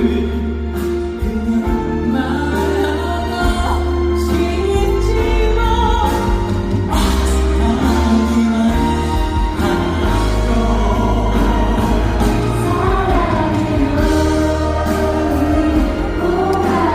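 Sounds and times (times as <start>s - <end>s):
live pop ballad by band: 0.0s - 16.9s
person singing: 0.0s - 16.9s.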